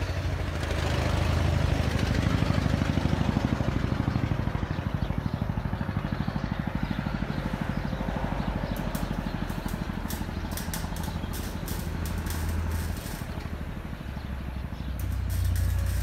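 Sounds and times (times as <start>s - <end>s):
engine running with pulsing beat: 0.0s - 16.0s.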